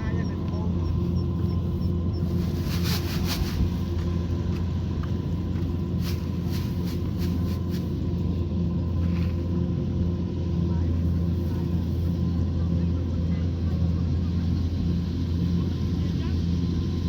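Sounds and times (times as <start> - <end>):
combine harvester engine running: 0.0 - 17.0.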